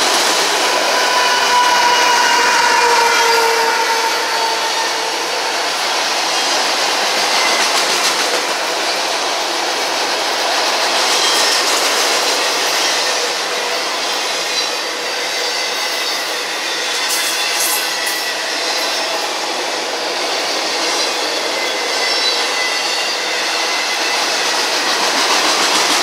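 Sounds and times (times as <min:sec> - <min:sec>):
freight train cars rolling past: 0:00.0 - 0:26.0.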